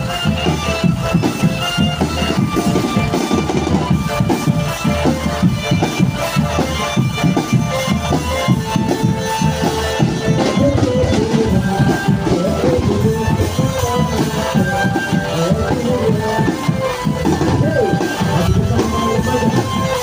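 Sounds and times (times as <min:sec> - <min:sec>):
drumband drumming: 0:00.0 - 0:20.0
keyboard melody: 0:00.0 - 0:20.0.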